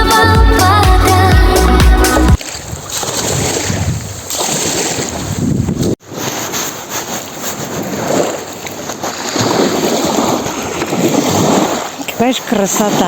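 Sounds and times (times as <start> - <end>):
waves washing onto shore: 2.4 - 13.0
wind on microphone: 2.4 - 13.0.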